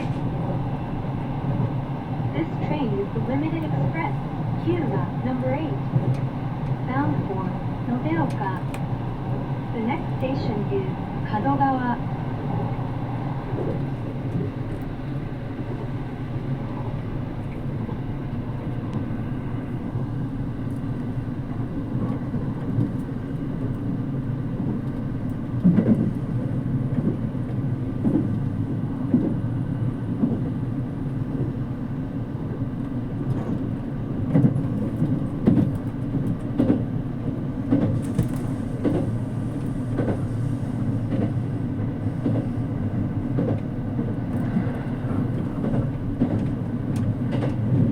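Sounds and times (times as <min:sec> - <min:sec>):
train rumbling inside carriage: 0:00.0 - 0:47.9.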